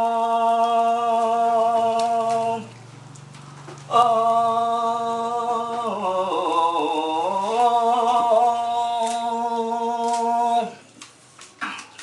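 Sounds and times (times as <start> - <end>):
man chanting: 0.0 - 2.7, 3.9 - 10.9.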